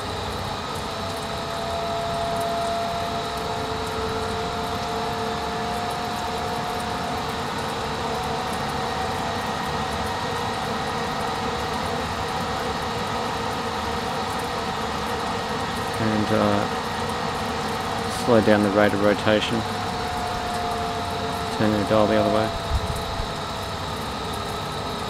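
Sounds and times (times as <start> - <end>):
turntable drive mechanical whine: 0.0 - 25.0.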